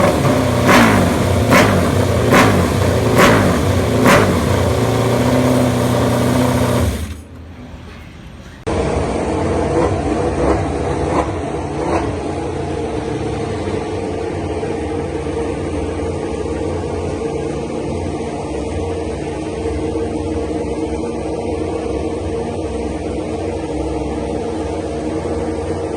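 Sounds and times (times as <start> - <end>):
racing motorcycle engines: 0.0 - 21.5.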